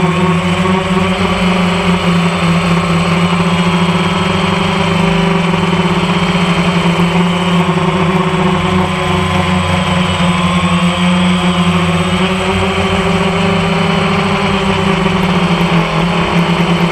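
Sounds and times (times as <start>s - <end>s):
drone motors humming: 0.0s - 16.9s
high propeller whine: 0.0s - 16.9s.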